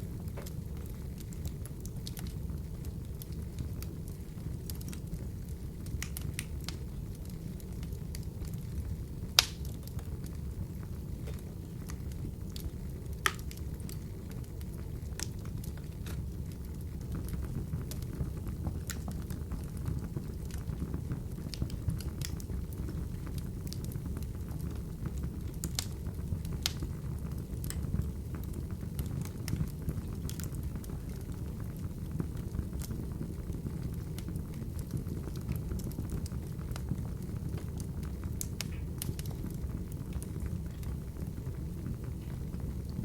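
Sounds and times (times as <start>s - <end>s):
burning logs crackling and popping: 0.0s - 43.0s
low rumble of flames: 0.0s - 43.0s.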